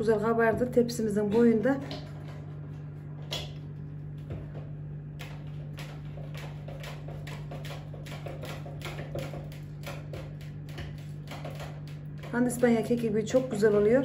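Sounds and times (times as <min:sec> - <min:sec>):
fan oven humming: 0:00.0 - 0:14.0.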